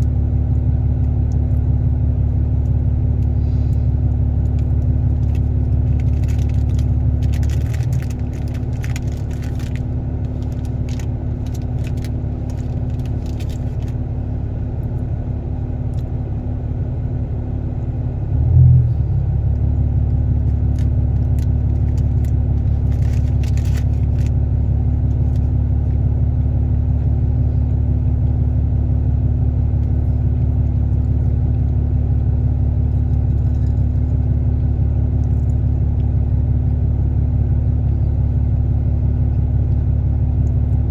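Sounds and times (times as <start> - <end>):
low rumbling hum: 0.0 - 40.9.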